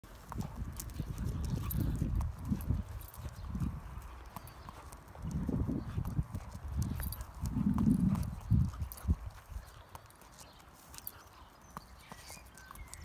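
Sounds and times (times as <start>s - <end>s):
footsteps on tarmac: 0.0s - 13.0s.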